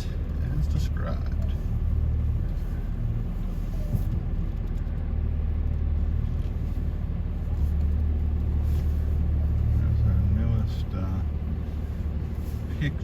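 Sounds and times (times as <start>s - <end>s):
pickup truck engine rumbling: 0.0s - 13.0s.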